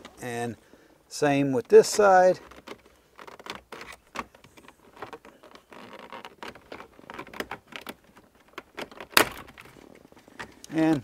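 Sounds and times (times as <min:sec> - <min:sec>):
plastic trim clicks and creaks: 0:01.4 - 0:11.0.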